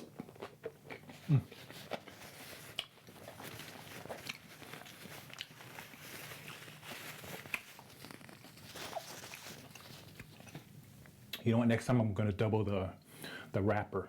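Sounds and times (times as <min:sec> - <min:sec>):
light crunches of chewing: 0:00.0 - 0:11.4.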